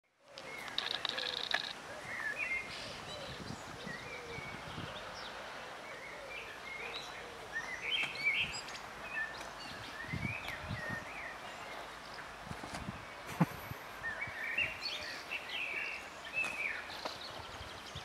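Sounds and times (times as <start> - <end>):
outdoor background noise: 0.0 - 18.0
birds chirping: 0.2 - 18.0.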